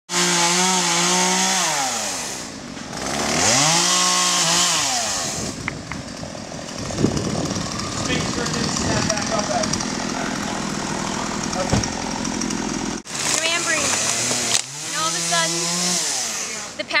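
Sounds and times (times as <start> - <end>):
chainsaw engine revving: 0.1 - 17.0.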